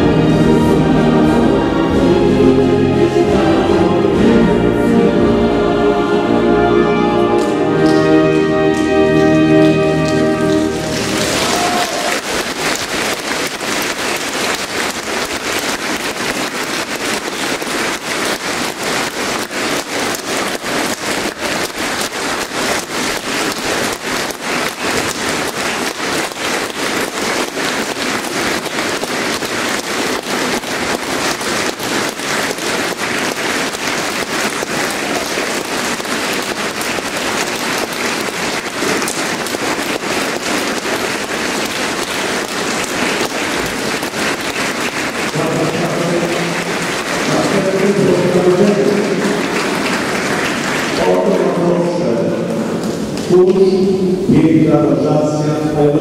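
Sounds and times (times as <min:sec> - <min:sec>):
audience applauding: 0:07.2 - 0:54.5.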